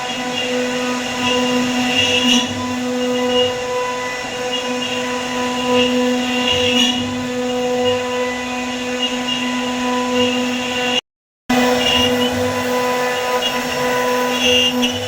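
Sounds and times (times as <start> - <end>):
cnc router electric whine: 0.0 - 15.0.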